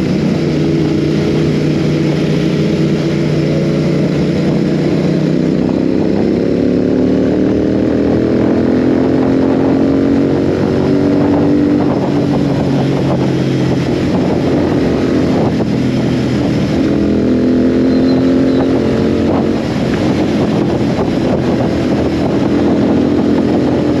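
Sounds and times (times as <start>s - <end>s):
motorcycle engine accelerating: 0.0s - 24.0s
wind and road noise: 0.0s - 24.0s.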